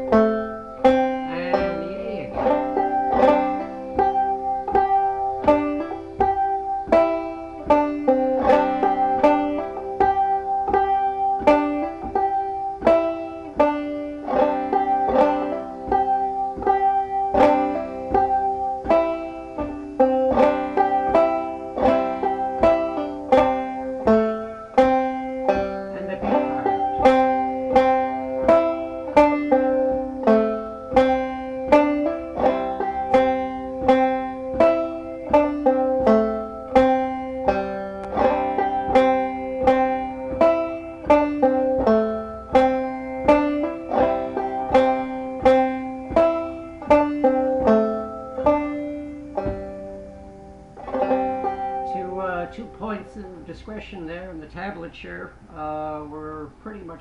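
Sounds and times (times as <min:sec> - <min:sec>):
banjo picking a melody: 0:00.0 - 0:57.0.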